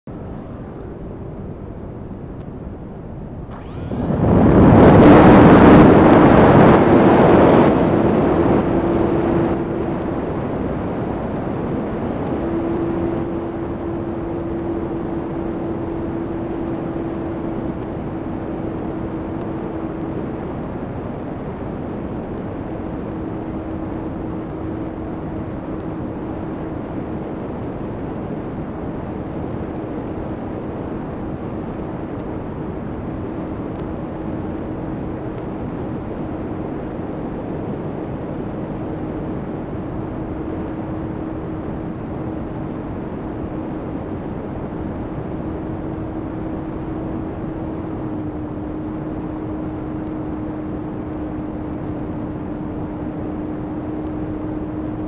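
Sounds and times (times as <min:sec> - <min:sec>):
electric motor whine: 0:03.0 - 0:38.0, 0:38.6 - 0:55.0
rush of airflow: 0:03.5 - 0:55.0.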